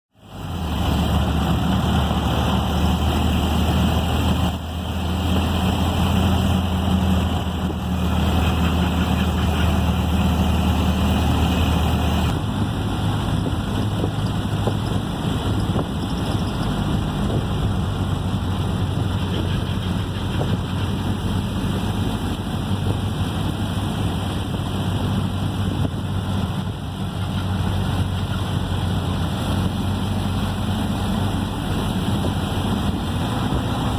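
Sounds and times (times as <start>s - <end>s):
car engine drone from inside: 0.2s - 33.9s.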